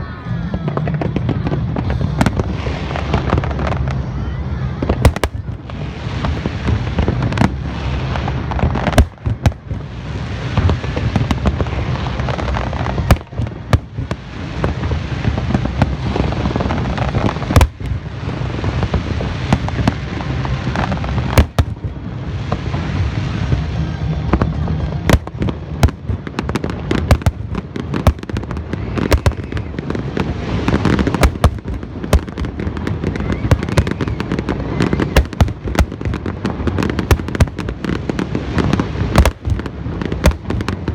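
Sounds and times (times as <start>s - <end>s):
fireworks booms and crackling: 0.0s - 40.9s
sharp loud firework bangs: 5.0s - 22.9s, 25.0s - 40.9s.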